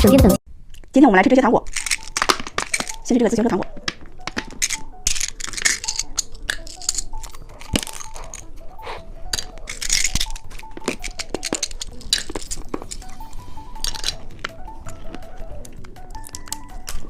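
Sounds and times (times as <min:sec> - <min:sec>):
plastic packaging crackling: 0:01.6 - 0:17.0
soft background music: 0:01.8 - 0:17.0.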